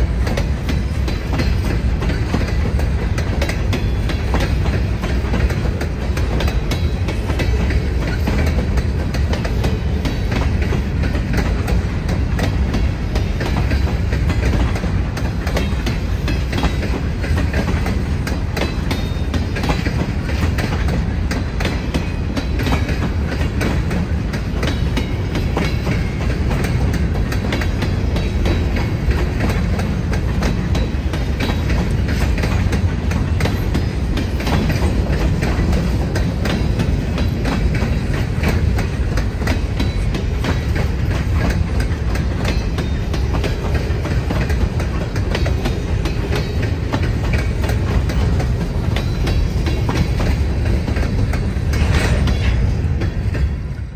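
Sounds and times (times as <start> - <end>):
train rumble: 0.0 - 53.9
train wheels clacking on rail joints: 0.0 - 53.9.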